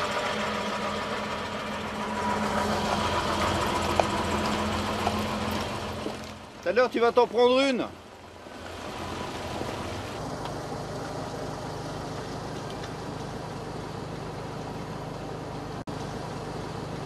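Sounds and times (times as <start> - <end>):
car engine idling: 0.0 - 17.0
road and wind noise: 0.0 - 17.0.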